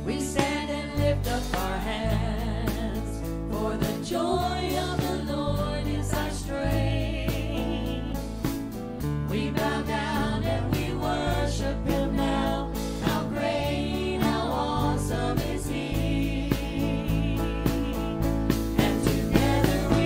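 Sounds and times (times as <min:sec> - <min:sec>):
voices singing together: 0:00.0 - 0:08.6, 0:09.2 - 0:20.0
acoustic guitars: 0:00.0 - 0:20.0
electric bass: 0:00.0 - 0:20.0
drum kit beat: 0:00.1 - 0:20.0.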